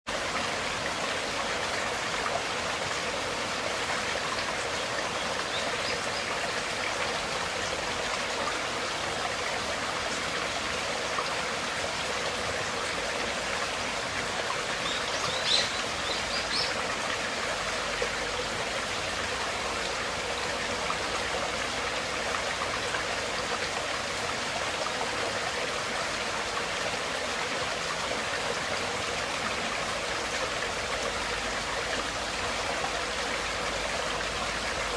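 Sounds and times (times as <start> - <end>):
stream water flowing: 0.1 - 34.9.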